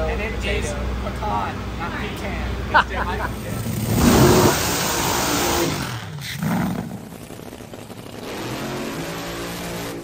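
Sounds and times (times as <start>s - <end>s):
drag racing engine droning: 1.0s - 10.0s.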